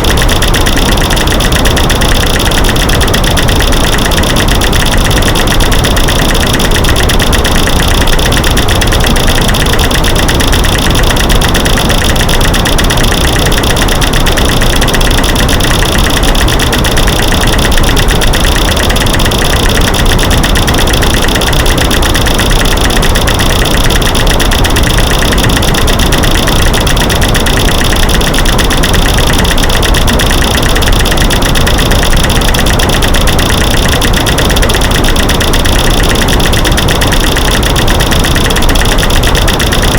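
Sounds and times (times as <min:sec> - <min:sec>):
rapid clicking and cracking: 0:00.0 - 0:39.9.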